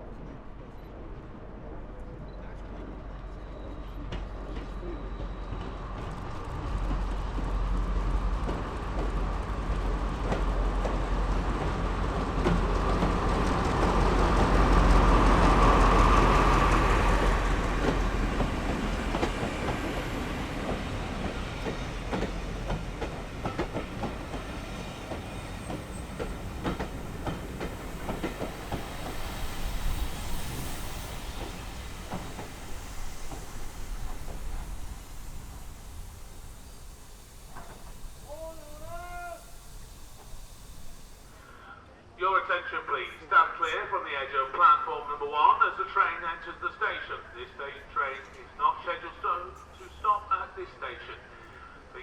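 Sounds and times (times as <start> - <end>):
train passing at speed: 0.0 - 52.0.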